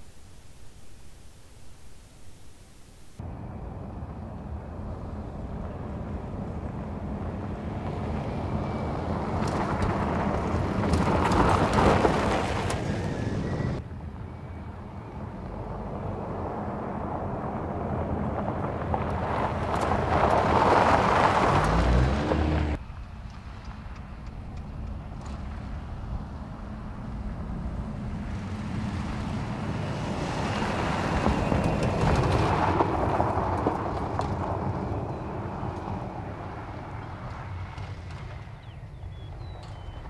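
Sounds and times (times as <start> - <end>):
pickup engine and tyres on gravel: 3.2 - 40.0.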